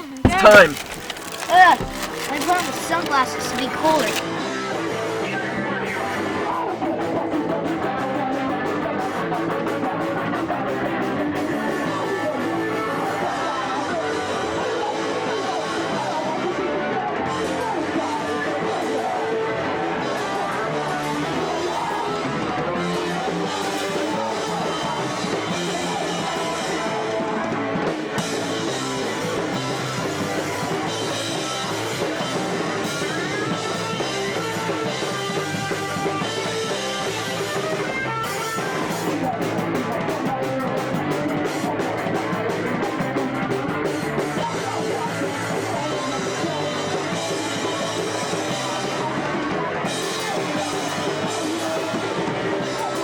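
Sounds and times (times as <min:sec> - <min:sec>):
fast punk rock band: 0:00.2 - 0:53.0.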